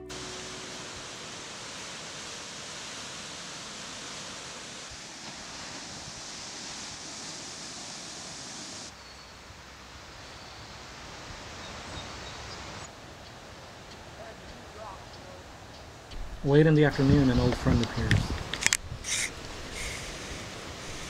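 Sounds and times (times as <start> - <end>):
ocean surf hissing: 0.0 - 21.0.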